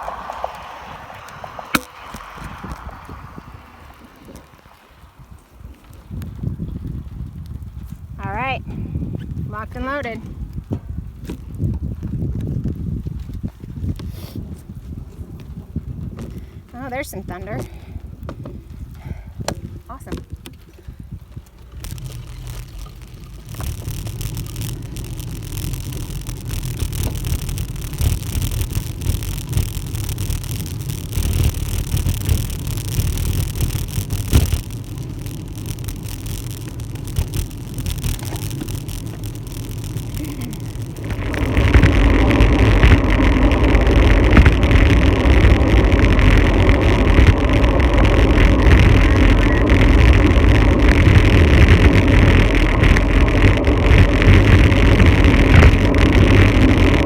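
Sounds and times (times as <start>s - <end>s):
bicycle road noise on wet road: 0.0s - 57.0s
wind on microphone: 0.0s - 57.0s.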